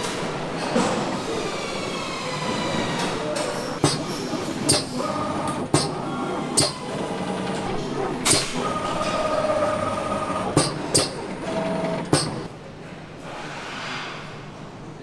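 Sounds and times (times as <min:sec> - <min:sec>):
machinery humming and whining: 0:00.0 - 0:12.5.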